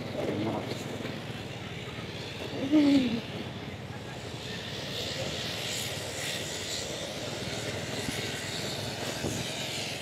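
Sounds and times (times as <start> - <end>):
street traffic drone: 0.0 - 10.0.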